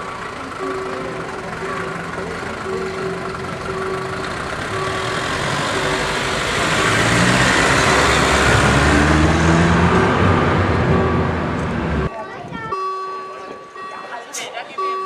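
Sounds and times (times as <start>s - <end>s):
wheels rolling on rails: 0.0s - 14.2s
railcar engine running: 0.0s - 15.0s.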